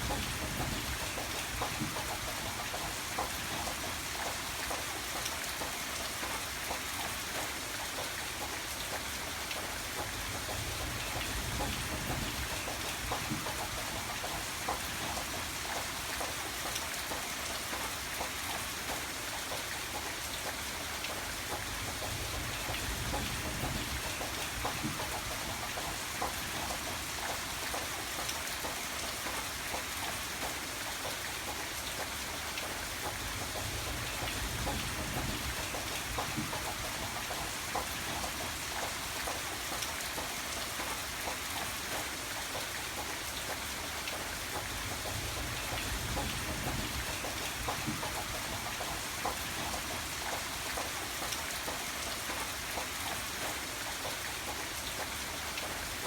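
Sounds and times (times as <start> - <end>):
raindrops striking a surface: 0.0 - 56.0
steady rain falling: 0.0 - 56.0.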